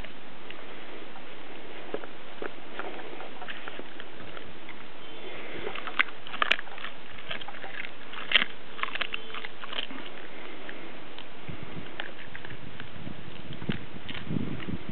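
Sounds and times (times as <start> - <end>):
dogs chewing food: 0.0 - 14.9.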